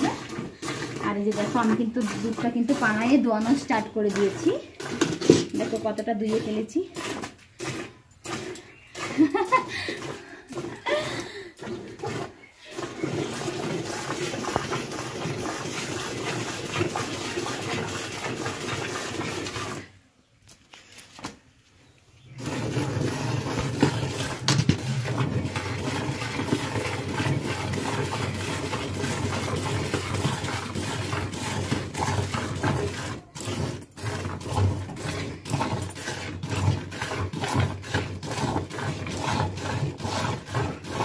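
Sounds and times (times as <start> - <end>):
milk squirting into steel bucket: 0.0 - 20.0, 22.2 - 41.0.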